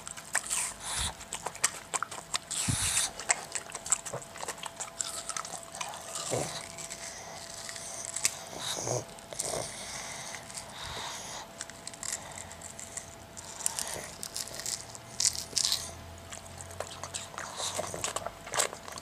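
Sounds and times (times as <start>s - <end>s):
dog chewing watermelon: 0.0s - 19.0s.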